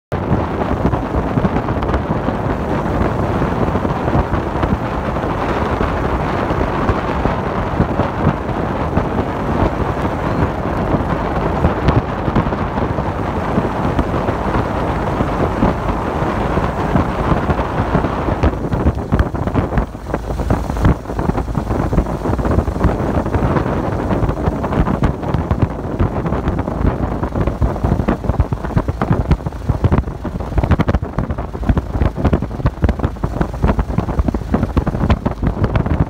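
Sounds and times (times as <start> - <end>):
car driving at speed rumble: 0.1 - 36.0
wind buffeting microphone: 0.1 - 36.0.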